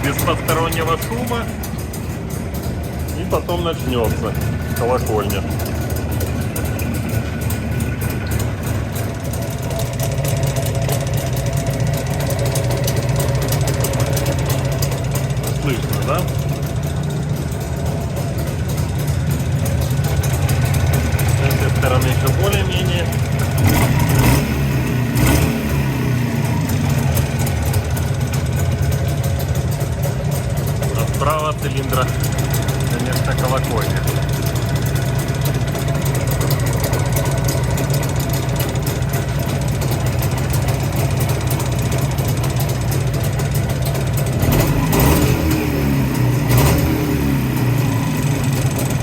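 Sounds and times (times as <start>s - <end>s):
metallic engine clatter: 0.0s - 49.0s
motorcycle engine idling: 0.0s - 49.0s.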